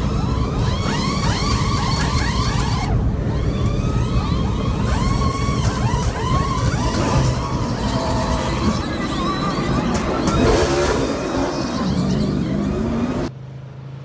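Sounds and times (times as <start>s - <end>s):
car engine revving: 0.0s - 13.3s.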